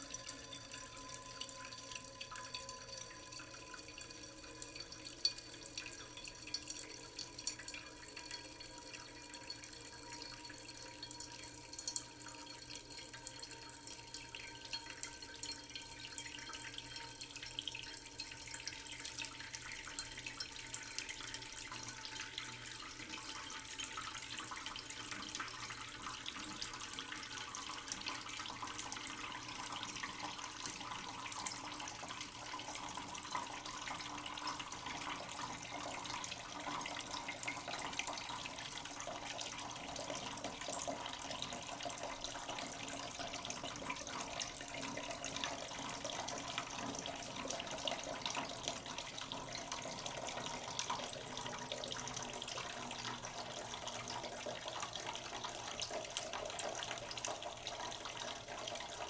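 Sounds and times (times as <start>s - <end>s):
tap water running into a pot: 0.0s - 59.0s.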